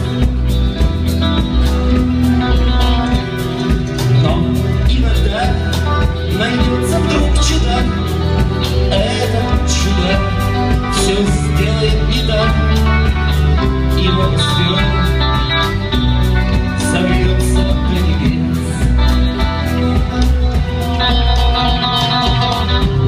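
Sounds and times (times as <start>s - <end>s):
deep bass line: 0.0s - 23.0s
guitar: 0.0s - 23.0s
regular beat: 0.0s - 23.0s.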